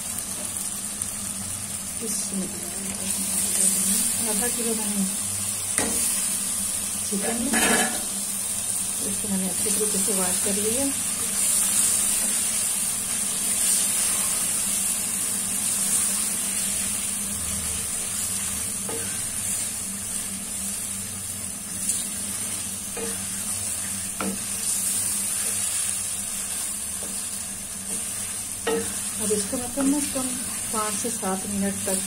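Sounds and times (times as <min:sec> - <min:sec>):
chicken sizzling in a pan: 0:00.0 - 0:32.0.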